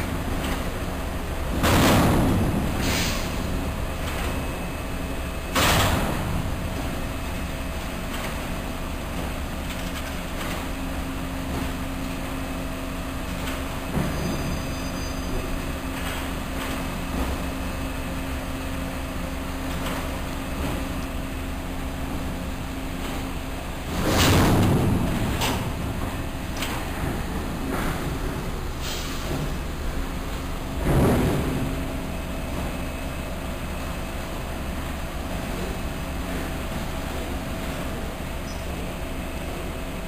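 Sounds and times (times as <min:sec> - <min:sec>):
crane machinery hum: 0:00.0 - 0:40.0.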